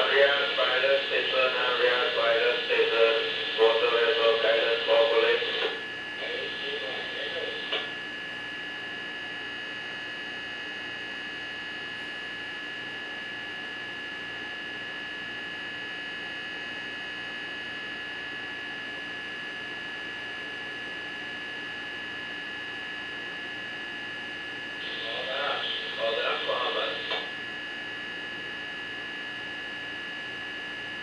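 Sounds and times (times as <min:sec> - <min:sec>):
electrical hum with high whine: 0:00.0 - 0:31.0.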